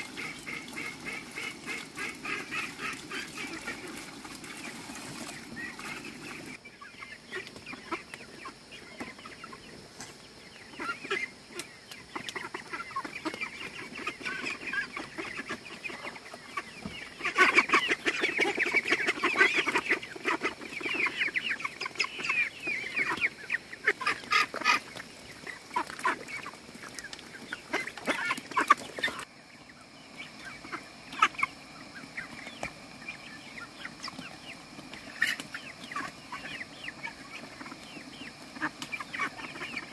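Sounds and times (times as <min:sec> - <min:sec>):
ducks quacking: 0:00.0 - 0:09.8, 0:10.5 - 0:39.9
chickens clucking: 0:00.0 - 0:39.9.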